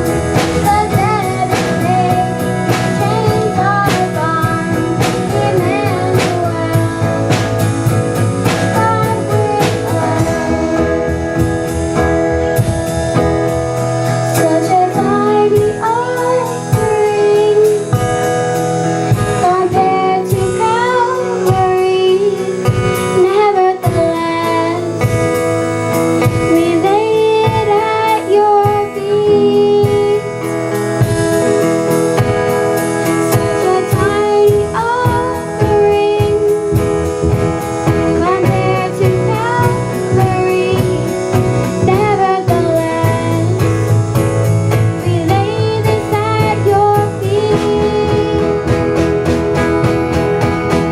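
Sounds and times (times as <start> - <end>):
person singing: 0.0 - 13.4, 14.0 - 50.2
drum kit beat: 0.0 - 50.9
guitar: 0.0 - 50.9.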